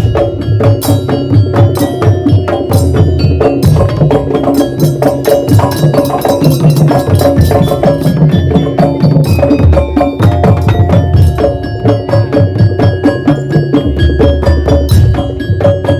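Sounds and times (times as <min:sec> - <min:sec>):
heavy drum beats: 0:00.0 - 0:15.9
percussion ensemble playing: 0:00.0 - 0:15.9
strikes on metal percussion: 0:00.0 - 0:15.9.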